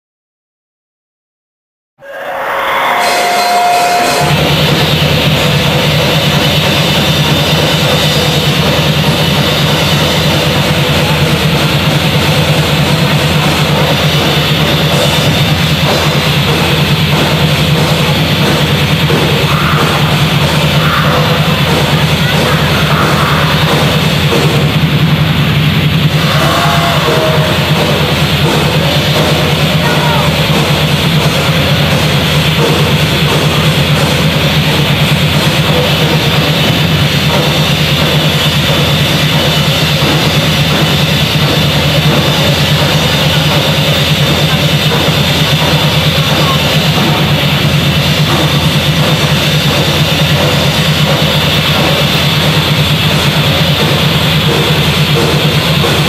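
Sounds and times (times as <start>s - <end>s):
distorted electric guitar: 2.0s - 56.0s
drum kit: 2.0s - 56.0s.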